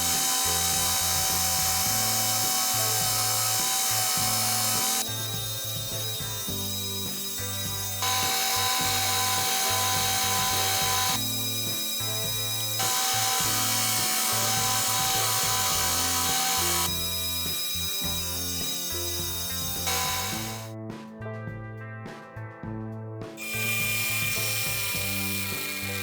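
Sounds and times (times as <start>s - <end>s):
power tool whining on wood: 0.0s - 20.7s, 23.4s - 26.0s
background music with bass line: 0.0s - 26.0s.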